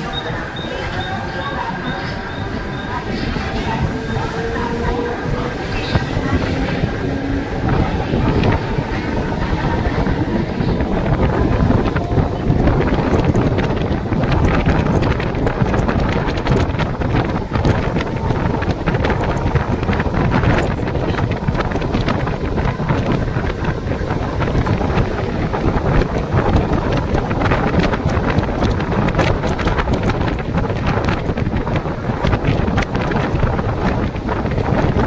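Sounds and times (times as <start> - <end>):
electric train rumbling on rails: 0.0 - 35.0
wind buffeting microphone: 0.0 - 35.0.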